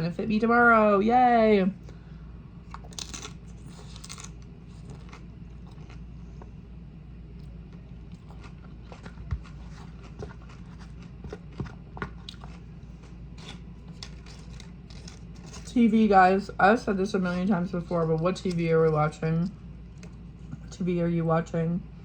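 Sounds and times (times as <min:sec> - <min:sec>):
chewing and eating: 0:02.6 - 0:20.8.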